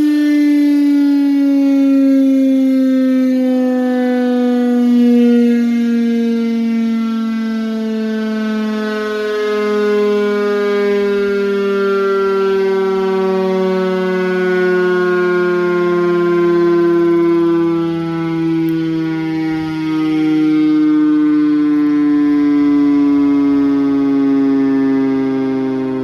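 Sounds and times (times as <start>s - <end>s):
siren with falling pitch: 0.0s - 26.0s.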